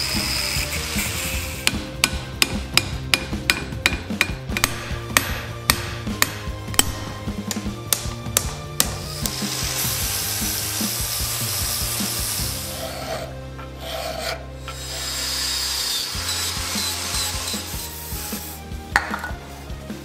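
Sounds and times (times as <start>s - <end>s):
hand file rasping on metal: 0.0s - 7.1s, 8.8s - 18.6s
angle grinder grinding steel: 0.0s - 18.8s
background music with low notes: 0.0s - 20.0s.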